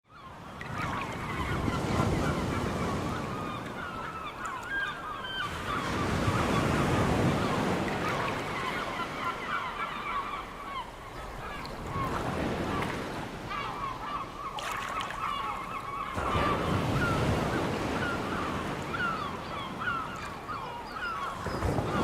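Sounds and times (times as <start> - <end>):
flock of birds calling: 0.1 - 22.0
sea waves washing on shore: 0.4 - 22.0.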